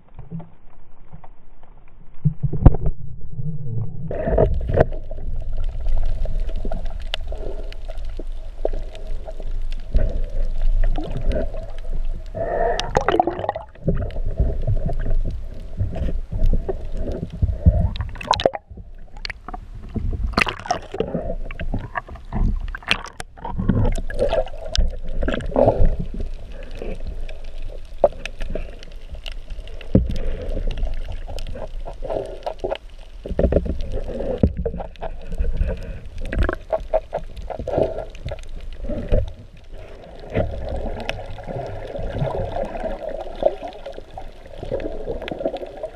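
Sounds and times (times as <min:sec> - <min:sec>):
underwater rumbling and gurgling: 0:00.0 - 0:45.9.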